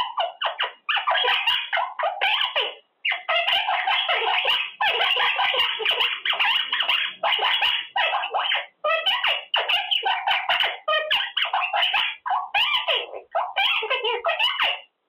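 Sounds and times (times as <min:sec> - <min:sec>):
parrot chattering: 0:00.0 - 0:15.0.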